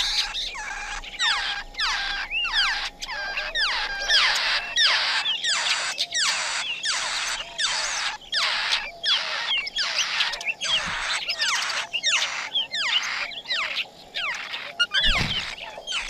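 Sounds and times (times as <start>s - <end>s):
nestlings begging chirps: 0.0s - 16.0s.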